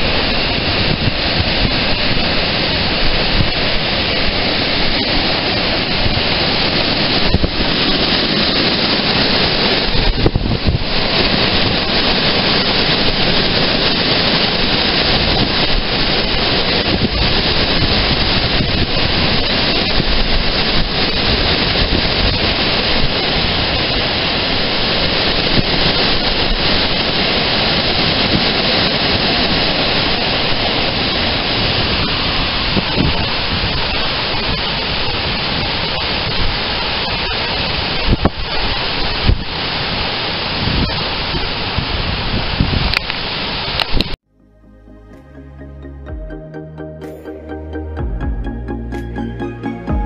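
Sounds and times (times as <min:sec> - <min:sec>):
strong wind against microphone: 0:00.0 - 0:44.3.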